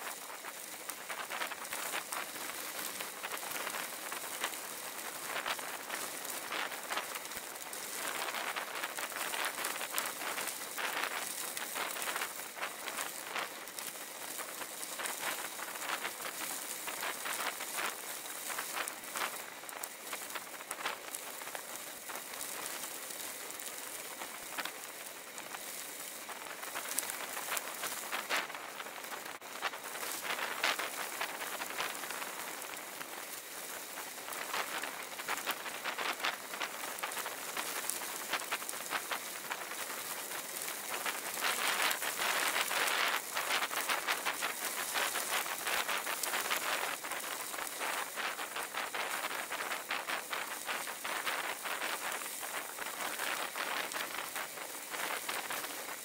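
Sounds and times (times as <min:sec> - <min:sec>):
bicycle tyres crunching gravel: 0:00.0 - 0:56.0.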